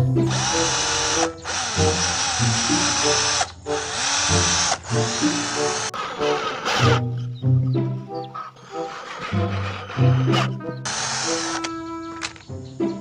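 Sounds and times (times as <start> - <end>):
background music: 0.0 - 13.0
small tool motor whirring: 0.3 - 7.2, 8.2 - 12.5.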